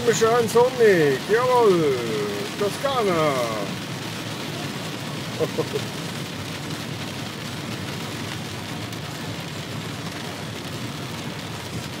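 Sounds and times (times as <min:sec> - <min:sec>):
rain and tyres on wet road: 0:00.0 - 0:12.0.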